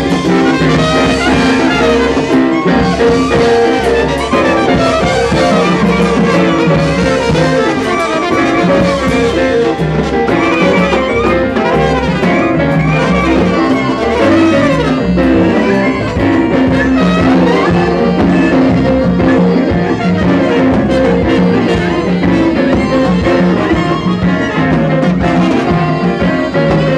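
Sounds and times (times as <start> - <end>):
drums: 0.0 - 26.9
jazz horn section: 0.0 - 26.9
keyboard: 0.0 - 26.9.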